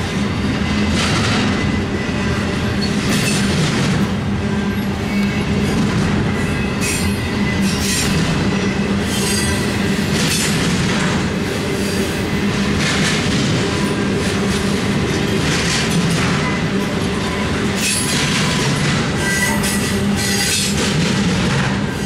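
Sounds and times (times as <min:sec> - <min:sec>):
train wheels clattering: 0:00.0 - 0:22.0
train wheels rumbling on rail: 0:00.0 - 0:22.0.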